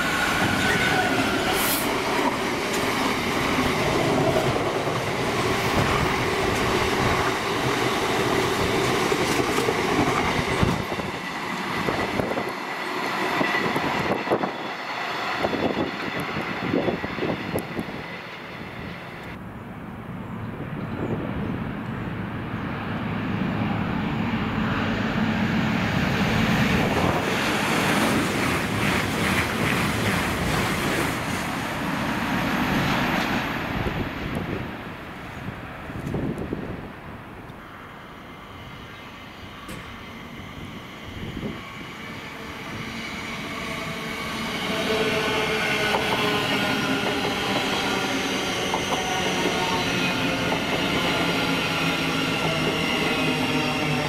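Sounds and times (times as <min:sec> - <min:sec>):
train passing at speed: 0:00.0 - 0:54.0.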